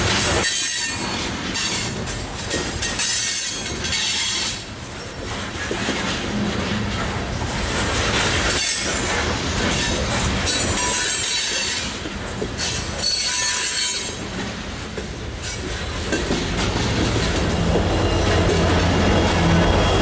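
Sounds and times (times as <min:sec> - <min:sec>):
freight train rumble: 0:00.0 - 0:20.0
wheels squealing on rail: 0:00.0 - 0:20.0.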